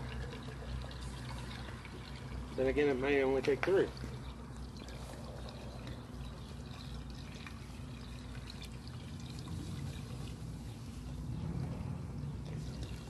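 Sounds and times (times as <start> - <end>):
broth pouring into a pot: 0.0 - 11.3.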